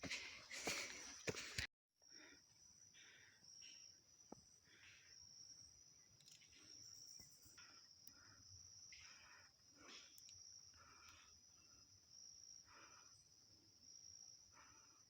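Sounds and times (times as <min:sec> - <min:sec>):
insects trilling: 0:00.1 - 0:15.0.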